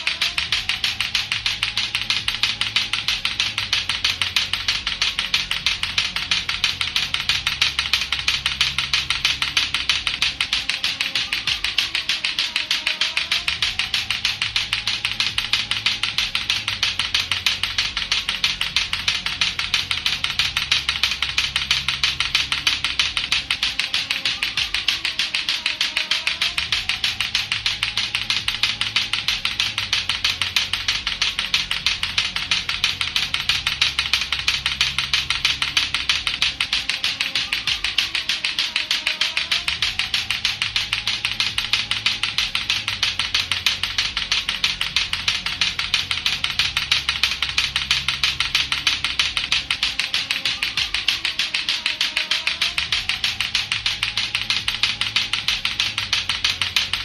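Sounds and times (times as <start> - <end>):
clacker toy balls clacking: 0.0 - 57.0
low backing track: 0.0 - 57.0.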